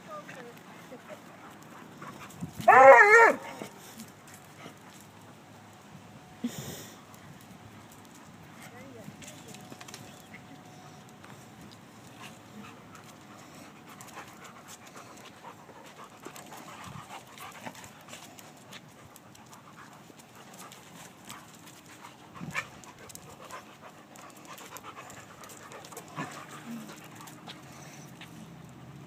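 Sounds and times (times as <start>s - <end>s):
dogs scuffling on concrete: 0.0s - 29.0s
dogs panting: 0.1s - 29.0s.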